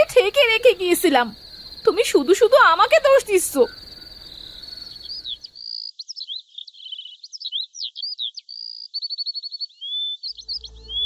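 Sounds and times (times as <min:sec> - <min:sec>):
songbirds chirping and trilling: 0:00.0 - 0:11.0.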